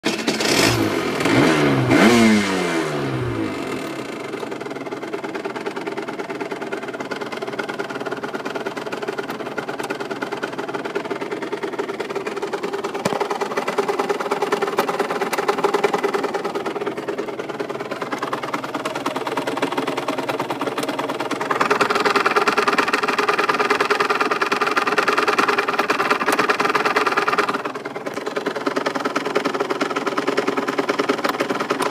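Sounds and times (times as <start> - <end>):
engine ticking noise: 0.0 - 31.9
motorcycle engine idling and revving: 0.0 - 31.9.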